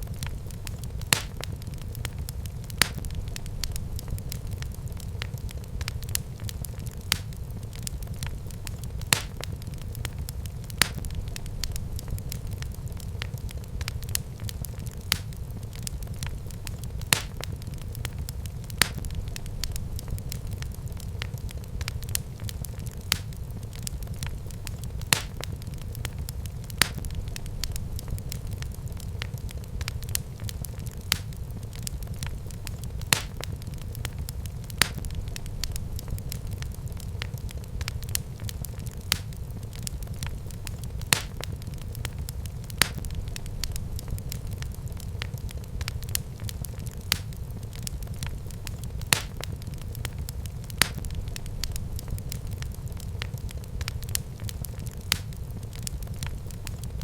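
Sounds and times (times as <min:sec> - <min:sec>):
sharp pops of fire: 0:00.0 - 0:57.0
wood fire crackling: 0:00.0 - 0:57.0.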